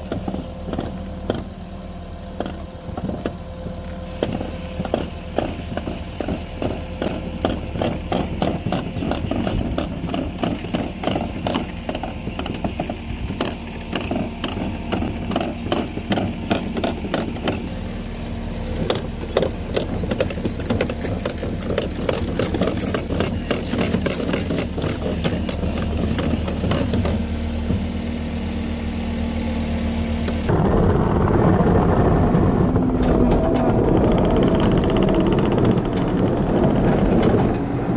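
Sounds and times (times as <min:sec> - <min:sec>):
rattling clatter of rubber tracks: 0:00.0 - 0:28.0, 0:30.2 - 0:37.9
diesel engine running: 0:00.0 - 0:37.9.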